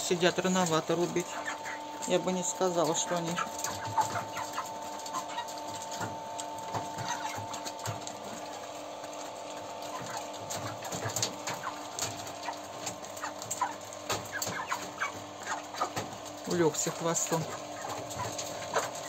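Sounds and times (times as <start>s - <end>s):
chickens cheeping and clucking: 0.0s - 19.0s
steady hum: 0.0s - 19.0s.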